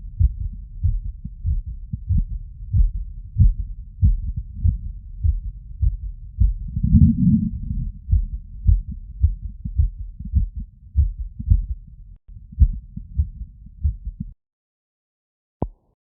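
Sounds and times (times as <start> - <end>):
heartbeat through stethoscope: 0.0 - 14.4.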